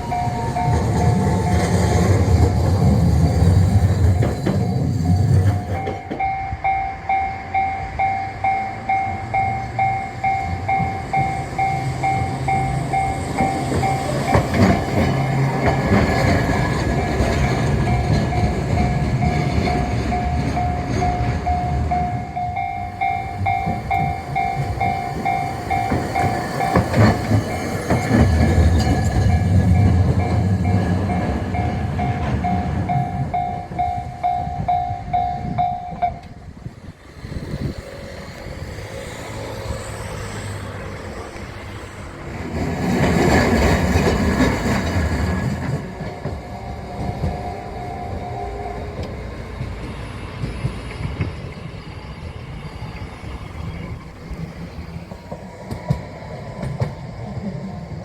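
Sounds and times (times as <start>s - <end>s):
level crossing warning bell: 0.0s - 37.0s, 43.0s - 58.0s.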